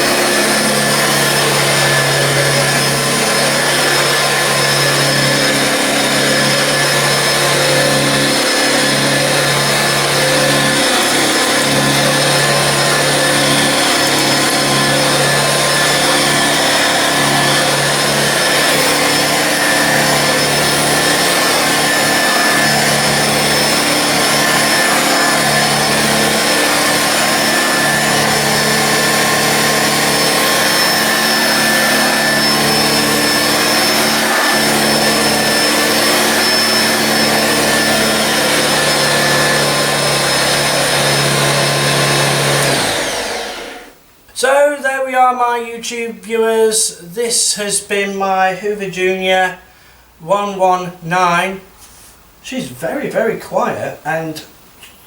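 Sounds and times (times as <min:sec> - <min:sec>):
upright vacuum cleaner running: 0:00.0 - 0:44.1.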